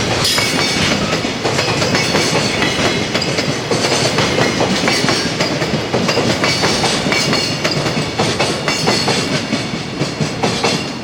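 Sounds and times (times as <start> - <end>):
train rumble: 0.0 - 11.0
train wheels clacking on rail joints: 0.0 - 11.0.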